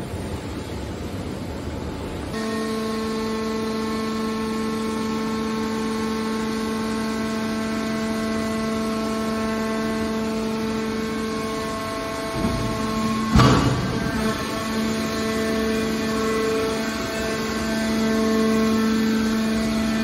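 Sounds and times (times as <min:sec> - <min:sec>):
broad machine noise: 0:00.0 - 0:20.0
hydraulic power unit humming: 0:00.0 - 0:20.0.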